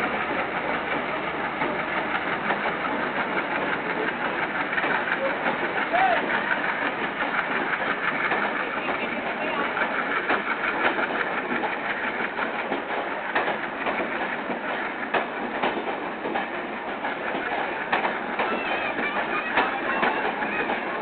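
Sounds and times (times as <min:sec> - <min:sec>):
train wheels rolling on rails: 0:00.0 - 0:21.0
wheels clicking over rail joints: 0:00.0 - 0:21.0.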